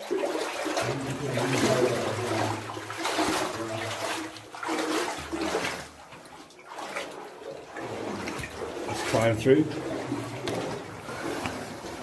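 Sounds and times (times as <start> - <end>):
people wading through water: 0.0 - 12.0.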